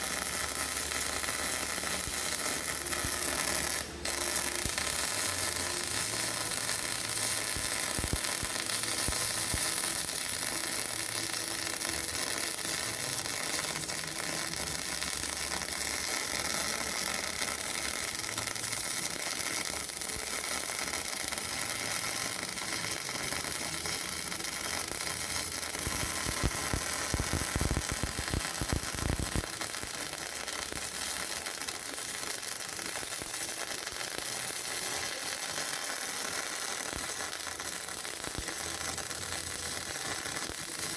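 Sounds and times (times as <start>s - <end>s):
welding arc crackling sizzle: 0.0s - 40.9s.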